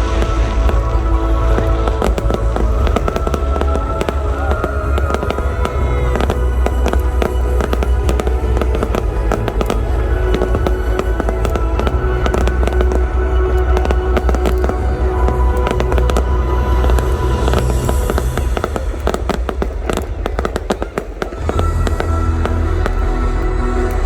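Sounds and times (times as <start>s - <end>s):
deep fireworks booms: 0.0s - 24.0s
fireworks bangs and crackles: 0.0s - 24.0s
loud music with held notes: 0.0s - 24.0s.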